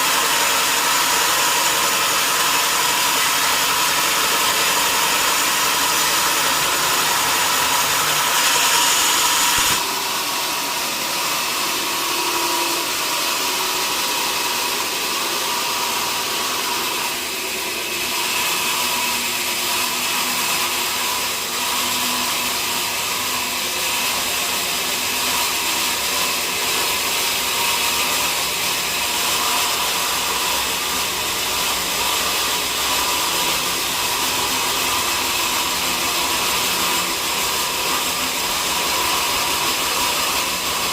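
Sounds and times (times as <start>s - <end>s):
sawmill saw cutting log: 0.0s - 40.9s.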